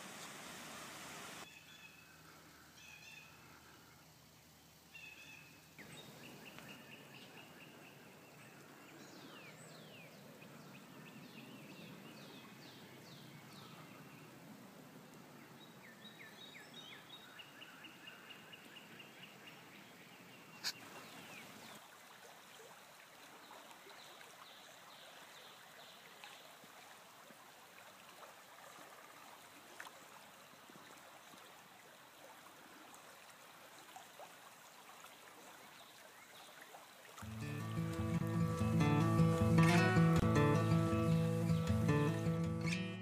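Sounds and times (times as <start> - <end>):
stream water trickling: 0.0 - 42.4.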